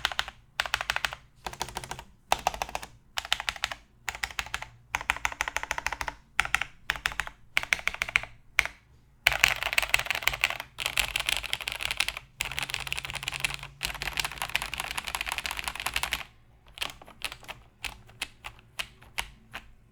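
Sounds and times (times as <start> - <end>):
mechanical keyboard typing: 0.0 - 19.9.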